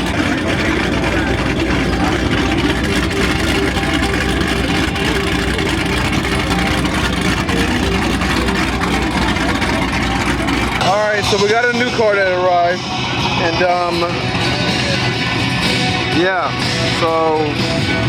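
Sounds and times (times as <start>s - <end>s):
sports car engines idling: 0.0s - 18.0s.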